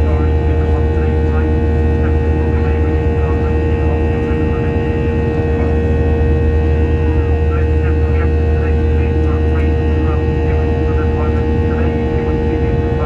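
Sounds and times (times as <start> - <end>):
jet engine cabin drone: 0.0 - 13.0
mid-pitched engine whine: 0.0 - 13.0.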